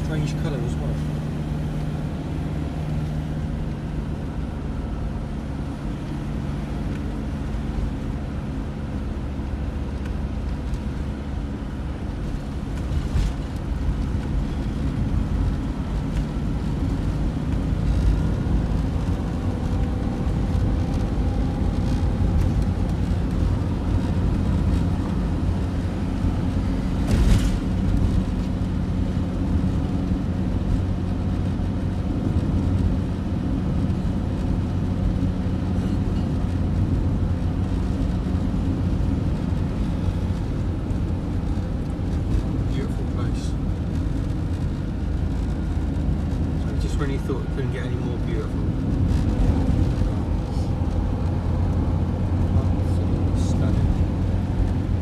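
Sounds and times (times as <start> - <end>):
engine and tyres droning: 0.0 - 55.0.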